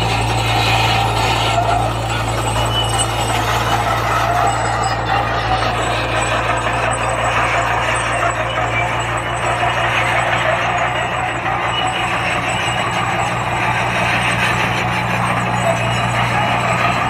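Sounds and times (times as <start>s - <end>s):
diesel engine humming: 0.0s - 17.0s
mechanical noise: 0.0s - 17.0s.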